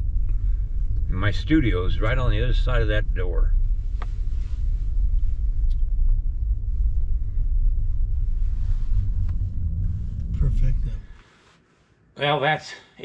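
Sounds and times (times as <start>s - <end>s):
vehicle engine and tyres rumbling: 0.0s - 11.4s.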